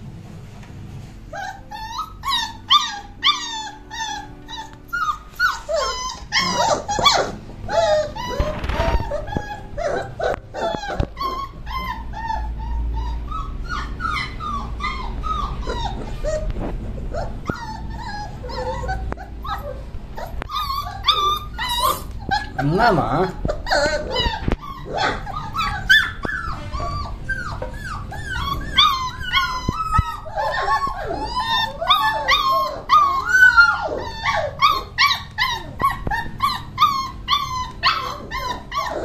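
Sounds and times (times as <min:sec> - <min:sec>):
puppies crying and whining: 0:01.0 - 0:39.0.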